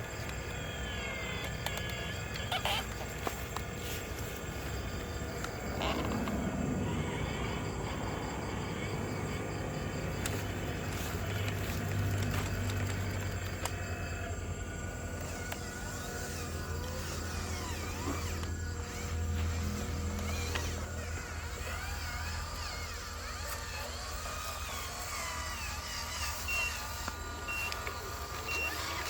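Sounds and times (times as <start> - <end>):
toy truck motor humming: 0.0 - 29.0.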